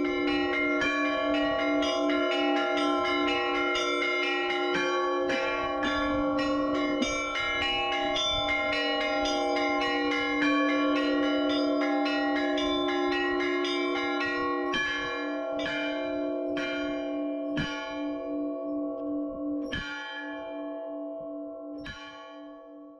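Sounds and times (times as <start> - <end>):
large bells ringing: 0.0 - 22.9.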